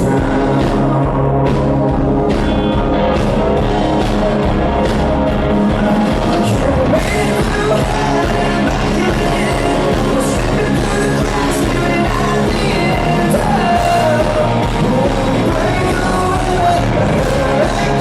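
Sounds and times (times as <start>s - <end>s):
lead vocal singing: 0.0s - 2.0s, 3.6s - 18.0s
rock band playing live: 0.0s - 18.0s.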